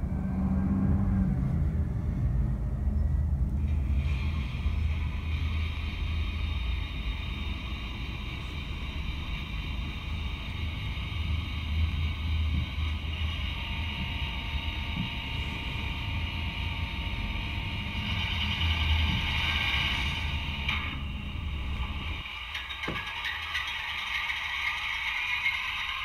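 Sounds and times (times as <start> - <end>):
diesel engine sound from small speaker: 0.0 - 26.0
low hum: 0.0 - 26.0.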